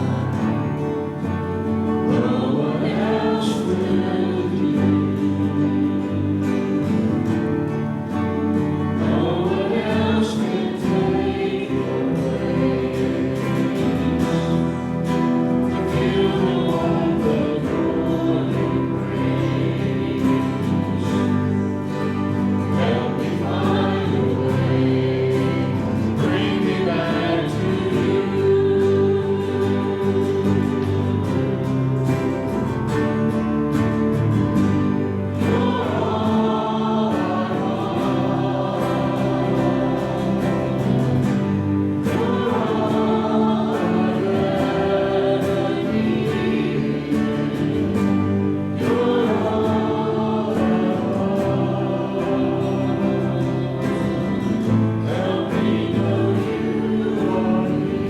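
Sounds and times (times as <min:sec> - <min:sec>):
voices singing: 0:00.0 - 0:58.0
worship band playing: 0:00.0 - 0:58.0.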